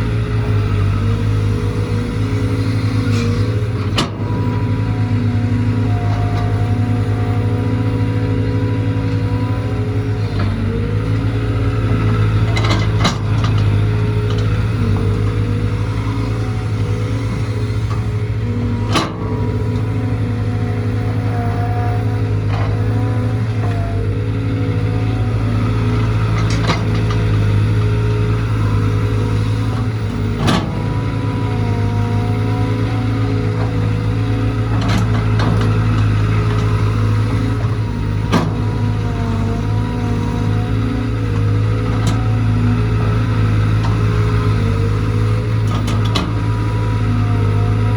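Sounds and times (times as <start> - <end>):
engine whine: 0.0 - 47.9
excavator diesel engine hum: 0.0 - 47.9.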